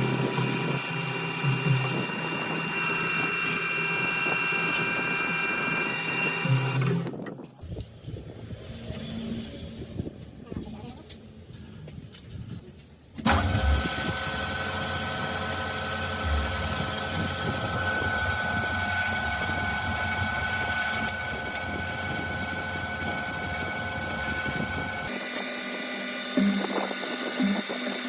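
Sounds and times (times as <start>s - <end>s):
machine humming and whining: 0.0s - 10.1s, 13.2s - 28.0s.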